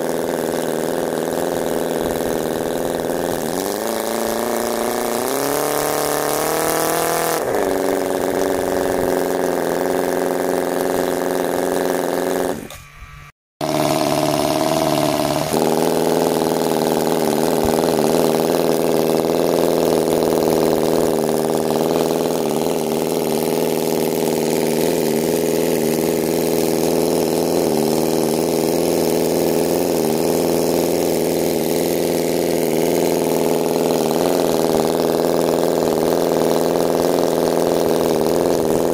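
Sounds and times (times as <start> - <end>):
model engine running: 0.0 - 38.9.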